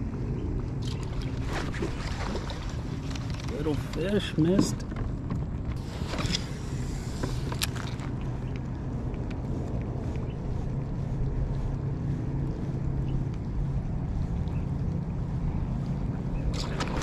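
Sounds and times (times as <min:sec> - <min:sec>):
steady low hum: 0:00.0 - 0:17.0
wind on microphone: 0:00.0 - 0:17.0.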